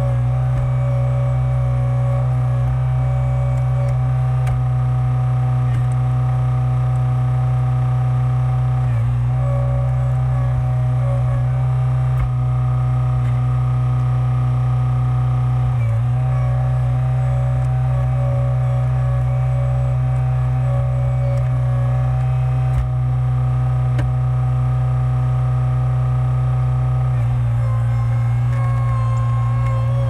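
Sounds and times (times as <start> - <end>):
skid steer engine running: 0.0 - 30.0.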